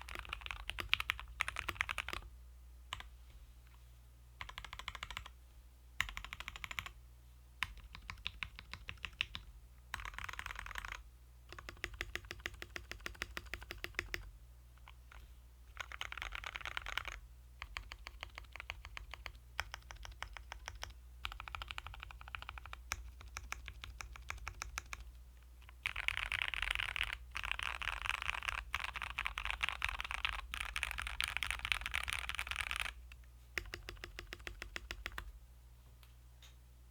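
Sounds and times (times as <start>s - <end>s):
mechanical keyboard typing: 0.0s - 2.3s, 4.4s - 5.3s, 6.0s - 6.9s, 7.6s - 15.0s, 15.7s - 33.0s, 33.6s - 35.3s.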